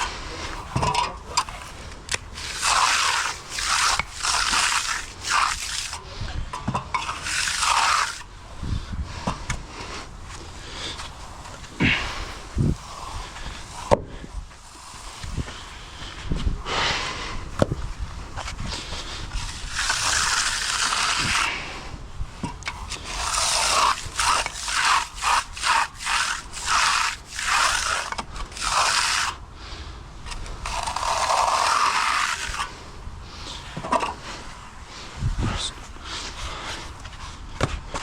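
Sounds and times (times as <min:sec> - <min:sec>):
stiff broom rasping on wet concrete: 0:00.0 - 0:37.5.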